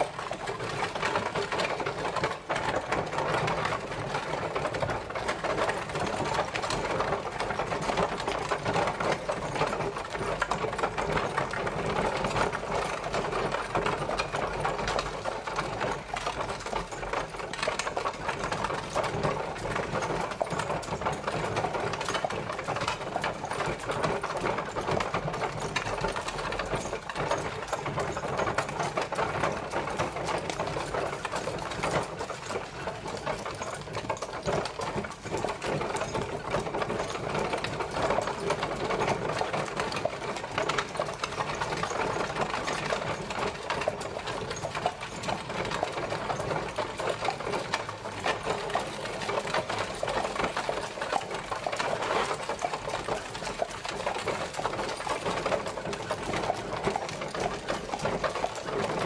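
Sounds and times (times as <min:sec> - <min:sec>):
carriage wheels clattering: 0:00.0 - 0:59.0.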